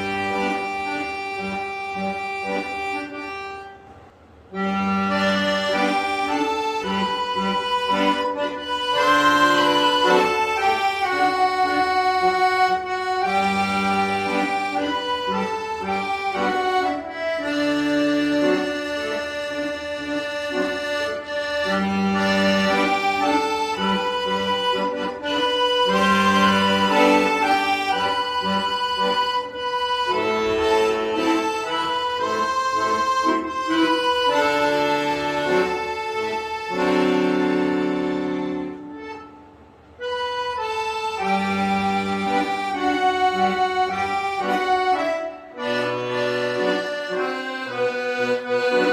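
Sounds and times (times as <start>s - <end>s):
accordion playing slow melody: 0.0s - 48.9s.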